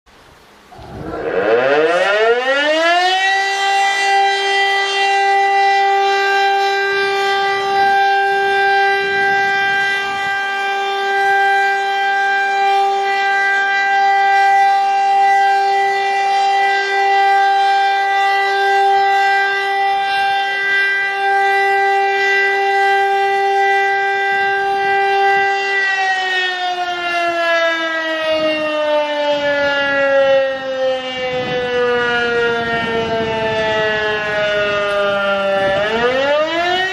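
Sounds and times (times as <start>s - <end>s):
rotary siren: 0.7s - 36.9s.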